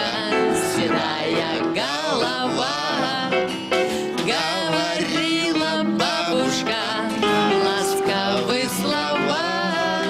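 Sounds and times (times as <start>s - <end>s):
guitar: 0.0s - 10.0s
live band playing: 0.0s - 10.0s.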